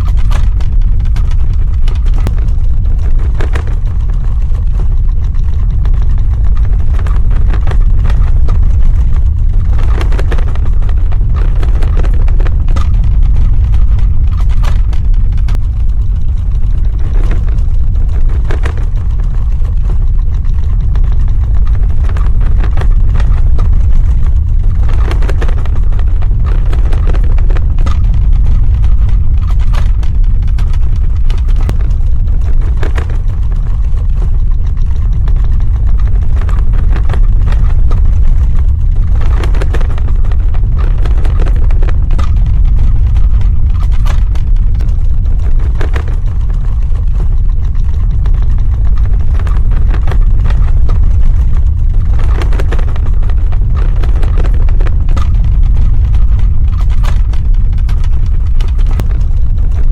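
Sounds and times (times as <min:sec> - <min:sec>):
deep earthquake rumble: 0:00.0 - 0:59.9
short crackles: 0:00.0 - 0:59.9.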